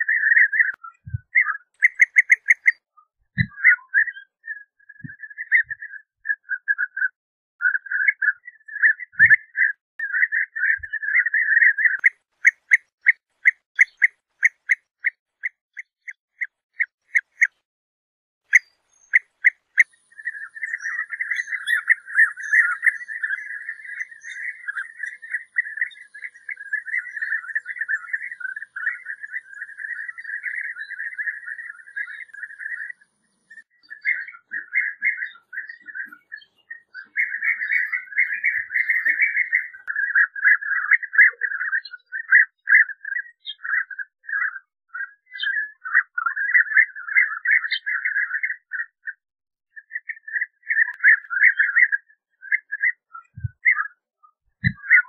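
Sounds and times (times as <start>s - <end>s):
bee-eaters calling: 0.0s - 14.8s, 18.5s - 49.0s, 49.9s - 53.9s, 54.6s - 55.0s.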